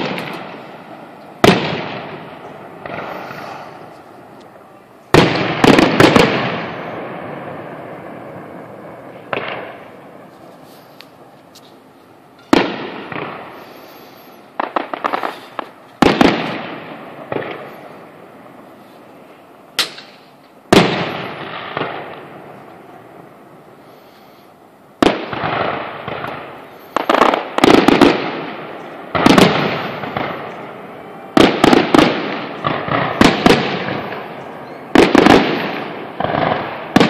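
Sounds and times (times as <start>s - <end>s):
crackling fireworks pops: 0.0s - 22.9s, 24.1s - 30.7s, 31.3s - 37.0s
fireworks booming with echo: 0.0s - 37.0s.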